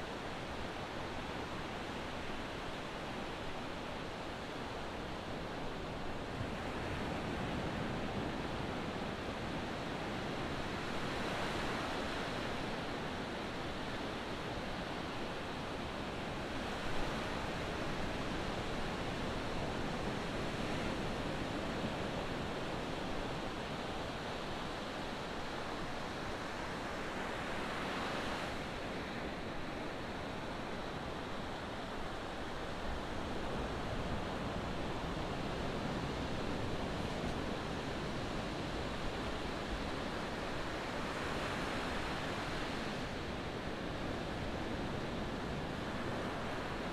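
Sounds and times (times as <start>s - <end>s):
ocean surf washing on shore: 0.0s - 46.9s.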